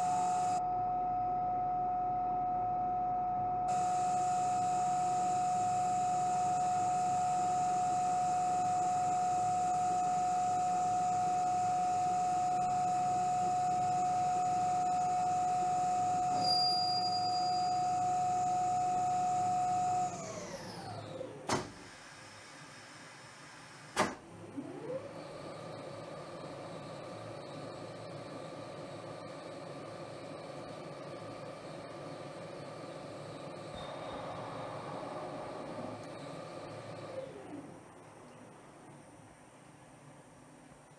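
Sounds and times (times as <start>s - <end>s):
lathe drive whine: 0.0s - 21.4s, 24.6s - 37.9s.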